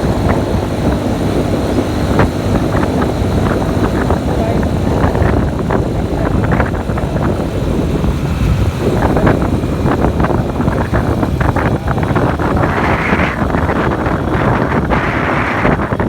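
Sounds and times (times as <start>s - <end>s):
motorcycle engine rumble: 0.0s - 16.0s
wind buffeting microphone: 0.0s - 16.0s.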